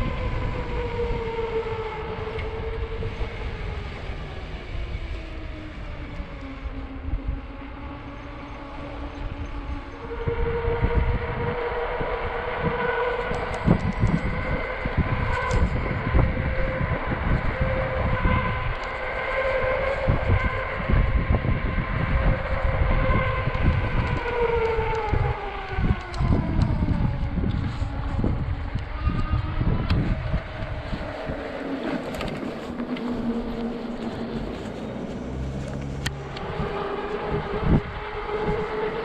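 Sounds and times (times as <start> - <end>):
electric bike motor whining: 0.0 - 39.0
wind rumble on microphone: 0.0 - 39.0.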